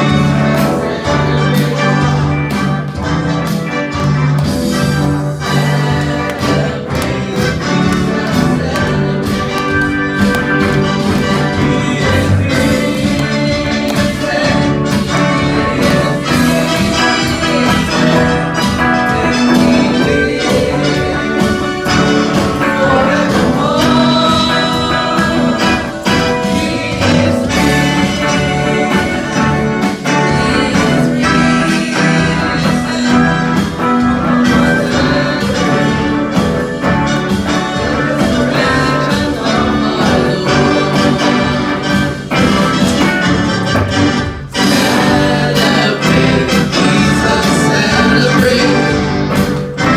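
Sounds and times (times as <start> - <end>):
gospel song with steady beat: 0.0 - 49.9
person singing: 0.0 - 49.9.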